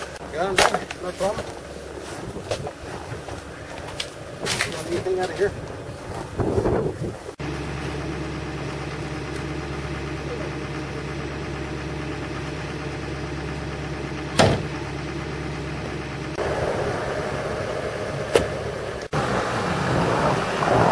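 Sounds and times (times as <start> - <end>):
pickup truck idling: 0.0 - 19.2.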